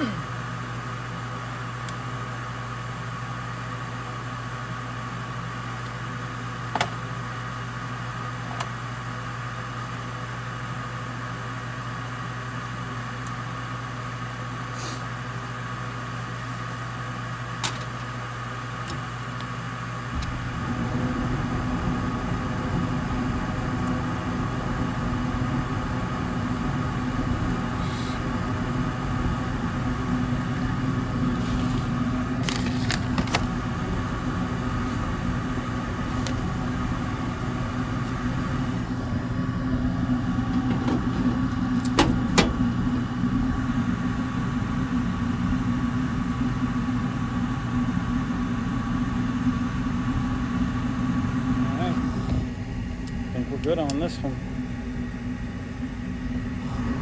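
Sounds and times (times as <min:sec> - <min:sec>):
furnace motor humming: 0:00.0 - 0:57.0
low furnace rumble: 0:00.0 - 0:57.0.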